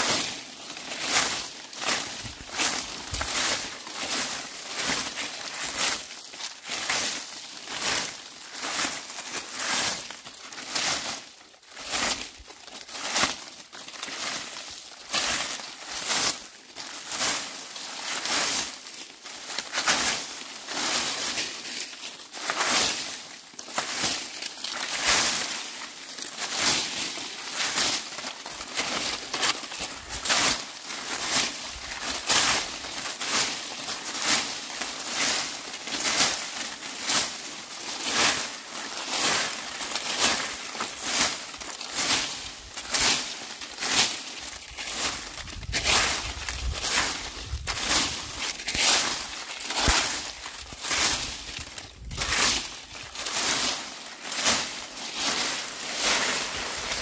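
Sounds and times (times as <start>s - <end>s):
broom sweeping dry leaves: 0.0s - 57.0s.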